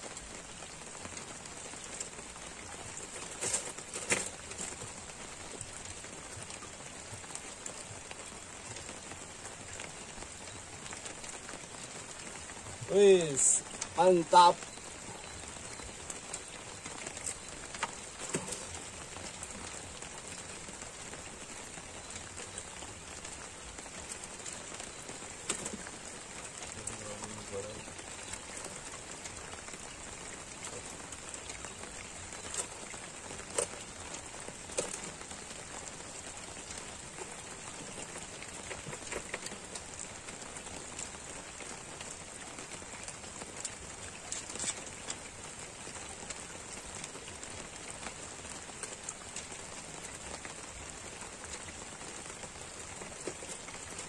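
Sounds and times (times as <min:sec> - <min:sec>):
rain falling on water: 0:00.0 - 0:54.0.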